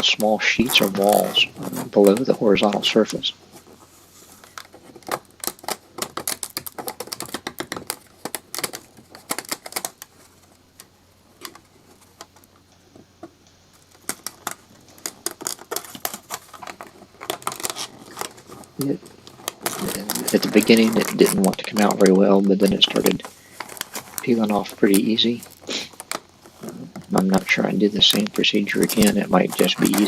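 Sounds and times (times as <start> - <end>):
plastic cracking and snapping: 4.4 - 30.0.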